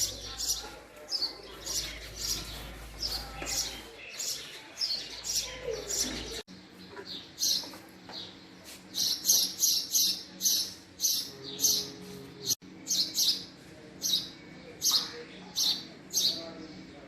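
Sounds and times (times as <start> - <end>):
sparrow chirping: 0.0 - 17.0.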